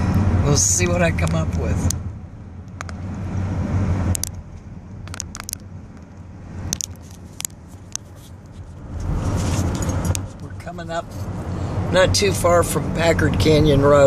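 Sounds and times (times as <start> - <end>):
engine and road rumble: 0.0 - 14.0.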